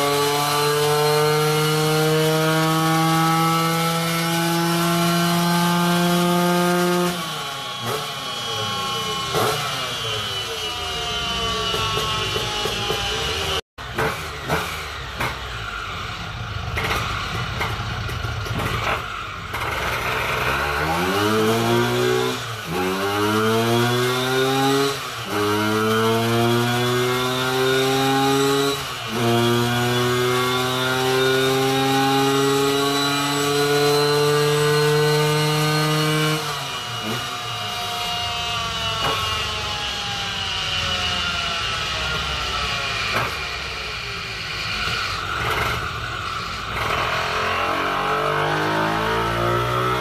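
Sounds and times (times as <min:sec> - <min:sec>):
scooter engine revving: 0:00.0 - 0:50.0.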